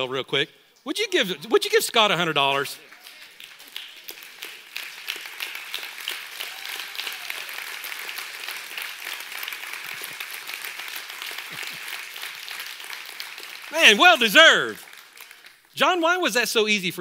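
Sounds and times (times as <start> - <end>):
congregation applauding: 2.0 - 16.3.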